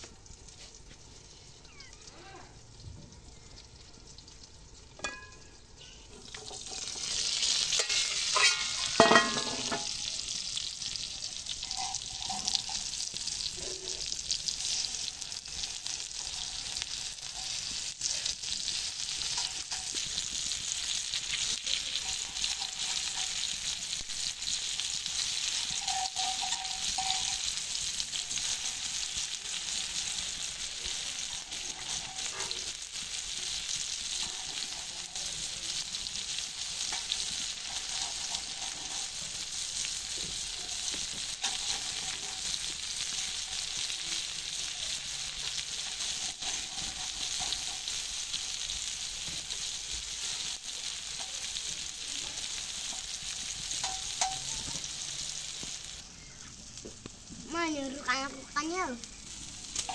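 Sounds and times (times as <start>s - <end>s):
tomatoes sizzling on a griddle: 0.0s - 59.9s
metal spoon scraping griddle: 5.0s - 23.8s, 24.6s - 51.8s, 52.5s - 55.0s.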